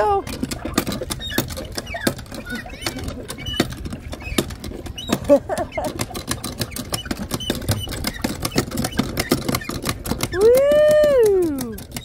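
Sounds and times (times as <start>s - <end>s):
hand water pumps clanking: 0.0s - 12.0s.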